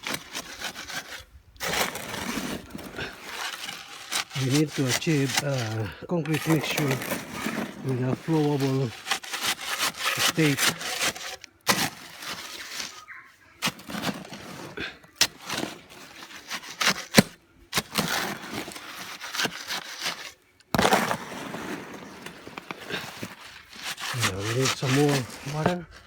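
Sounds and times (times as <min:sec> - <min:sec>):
tool scraping wet cement: 0:00.0 - 0:26.0.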